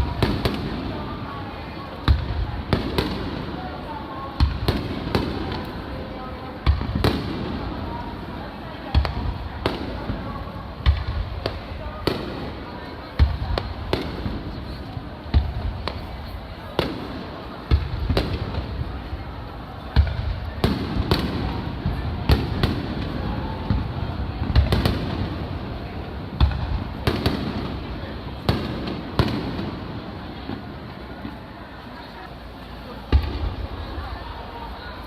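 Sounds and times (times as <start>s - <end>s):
crowd murmur: 0.0s - 35.0s.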